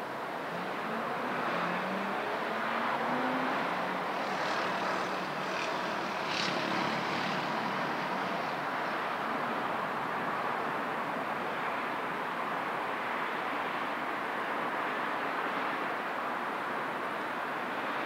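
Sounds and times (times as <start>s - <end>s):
distant city traffic: 0.0s - 18.0s.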